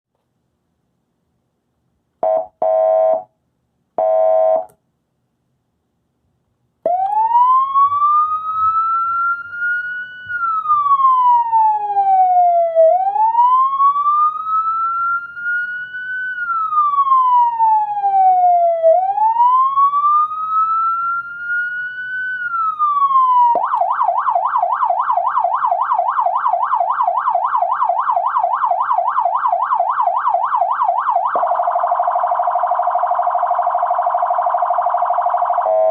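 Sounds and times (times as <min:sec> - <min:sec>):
siren fast yelp: 0:06.9 - 0:35.9
siren wail tone: 0:06.9 - 0:35.9.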